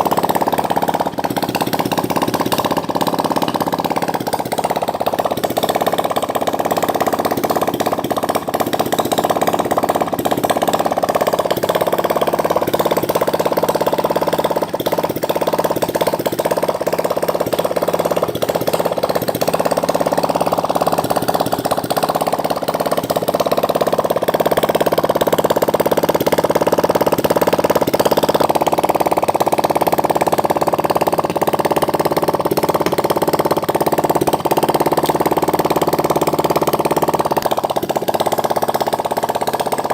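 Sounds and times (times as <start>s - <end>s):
engine running with rapid ticking: 0.0s - 39.9s.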